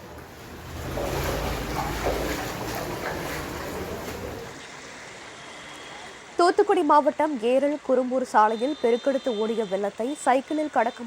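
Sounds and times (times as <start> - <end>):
running floodwater: 0.0 - 11.0.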